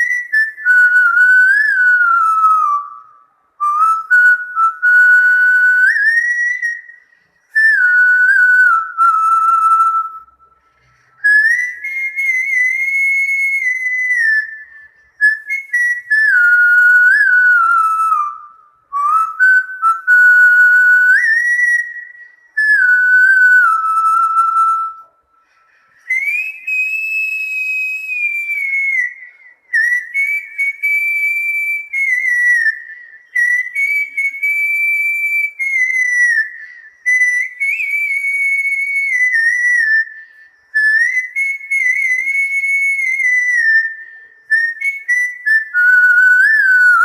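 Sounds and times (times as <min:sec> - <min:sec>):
man whistling a tune: 0:00.0 - 0:47.0.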